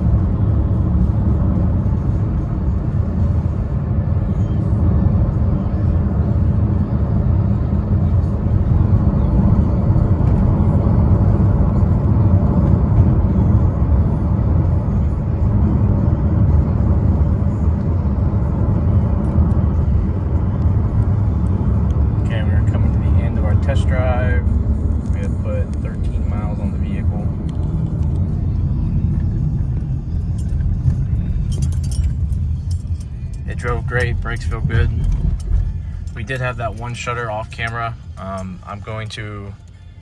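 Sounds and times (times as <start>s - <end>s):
car road noise from inside: 0.0s - 40.0s.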